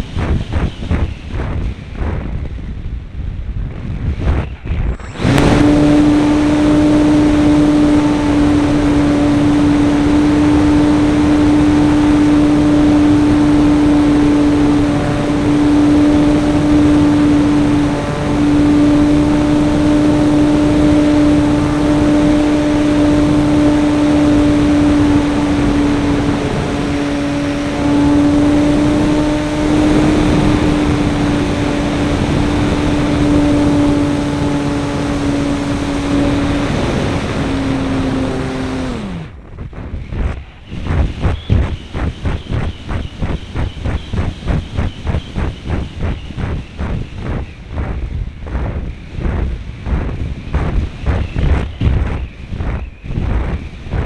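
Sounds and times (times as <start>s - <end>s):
wind buffeting: 0.0s - 54.0s
high-pitched propeller motor drone: 4.2s - 54.0s.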